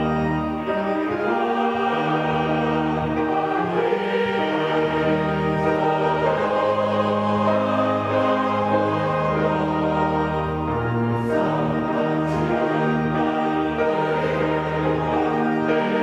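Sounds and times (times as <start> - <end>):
choir singing a hymn: 0.0 - 16.0
organ: 0.0 - 16.0
piano: 0.0 - 16.0.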